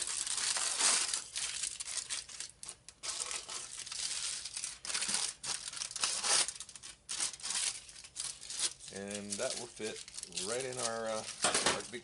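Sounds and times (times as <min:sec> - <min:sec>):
aluminum foil crinkling: 0:00.0 - 0:12.0.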